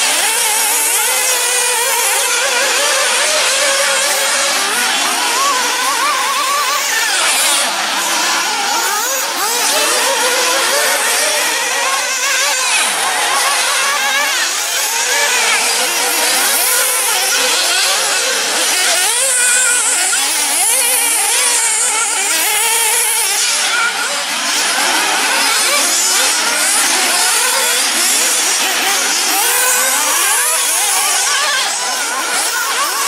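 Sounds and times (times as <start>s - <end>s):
small engines whining: 0.0s - 33.0s.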